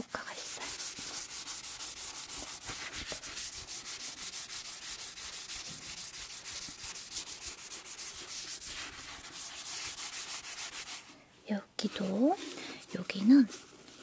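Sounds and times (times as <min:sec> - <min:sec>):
scrub towel scrubbing: 0:00.2 - 0:11.2, 0:11.8 - 0:14.0.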